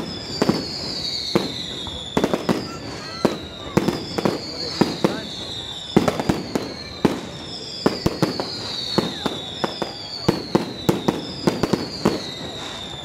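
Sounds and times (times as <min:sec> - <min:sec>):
firework bangs and pops: 0:00.0 - 0:13.0
firework whistles sliding down: 0:00.0 - 0:13.0.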